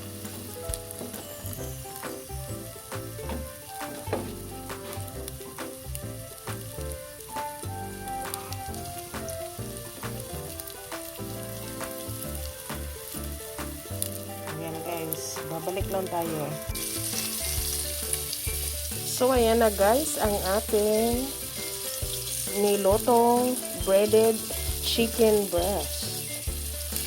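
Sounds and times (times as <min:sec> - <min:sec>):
background music with bass: 0:00.0 - 0:27.0
chicken frying in hot oil: 0:00.0 - 0:27.0.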